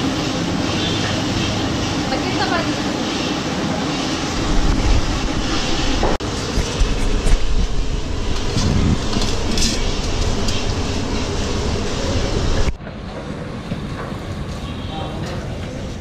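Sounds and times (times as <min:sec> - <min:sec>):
kitchen rumbling roar: 0:00.0 - 0:14.2.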